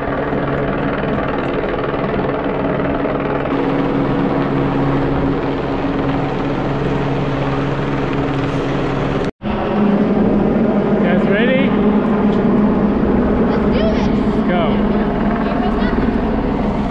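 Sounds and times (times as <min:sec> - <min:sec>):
helicopter drone overhead: 0:00.0 - 0:16.9.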